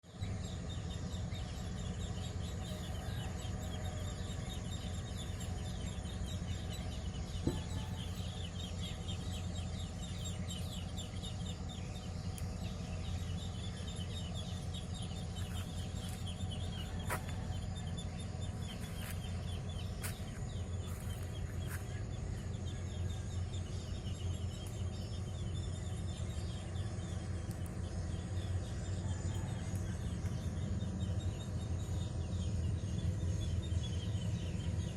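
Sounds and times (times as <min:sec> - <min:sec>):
insects chirping: 0:00.0 - 0:34.9
tugboat engine drone: 0:00.0 - 0:34.9.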